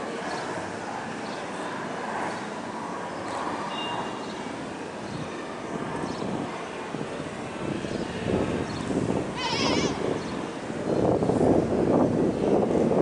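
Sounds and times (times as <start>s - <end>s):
street noise: 0.0s - 13.0s
traffic hum: 0.0s - 13.0s.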